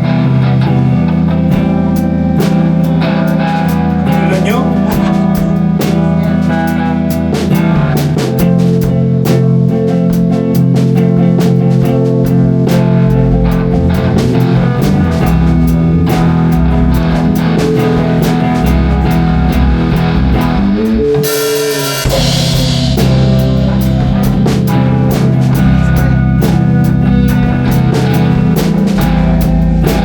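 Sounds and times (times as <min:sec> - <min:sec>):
rock music with drums and guitar: 0:00.0 - 0:30.0.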